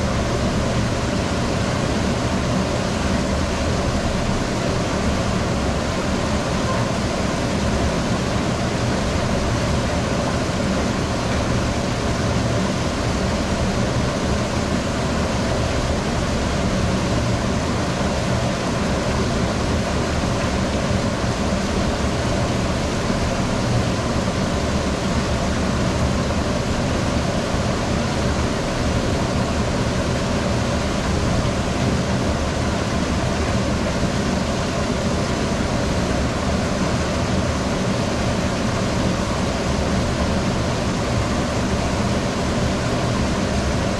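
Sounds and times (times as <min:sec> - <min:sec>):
rush of flowing water: 0:00.0 - 0:43.9.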